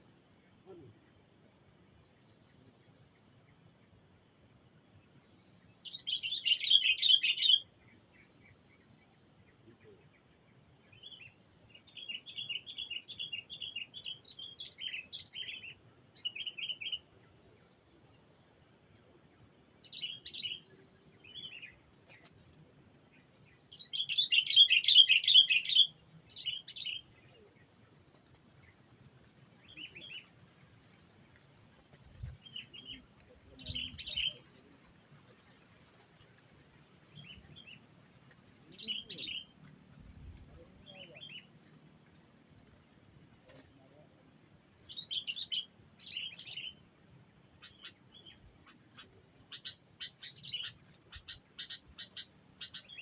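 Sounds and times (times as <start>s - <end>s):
birds chattering and chirping: 5.4s - 53.0s.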